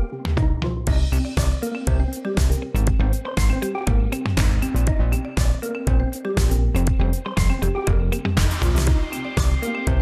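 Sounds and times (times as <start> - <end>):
instrumental music with deep bass hits: 0.0 - 10.0.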